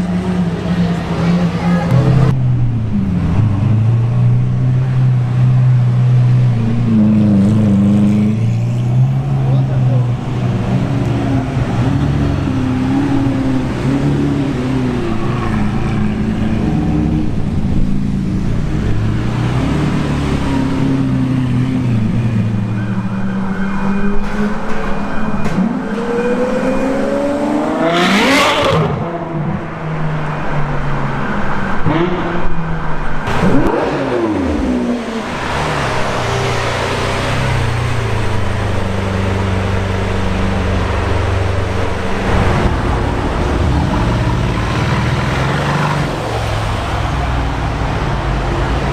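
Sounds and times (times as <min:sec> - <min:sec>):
sports car engines revving: 0:00.0 - 0:48.9.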